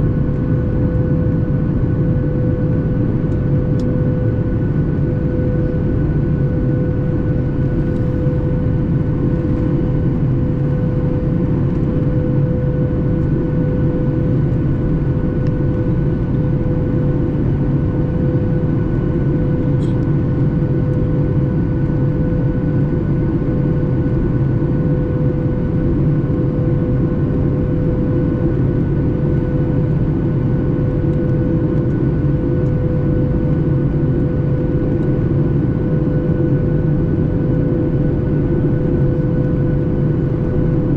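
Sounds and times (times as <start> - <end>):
aircraft cabin engine drone: 0.0 - 40.9
steady hum tone: 0.0 - 40.9.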